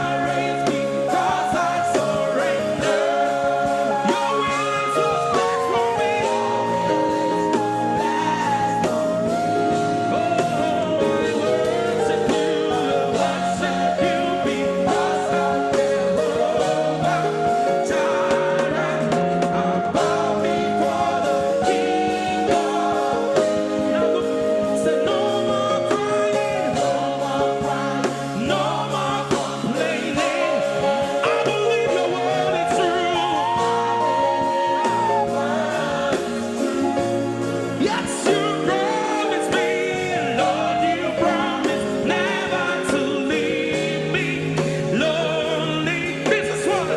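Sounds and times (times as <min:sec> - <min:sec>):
gospel singing: 0:00.0 - 0:46.9
instrumental accompaniment: 0:00.0 - 0:46.9.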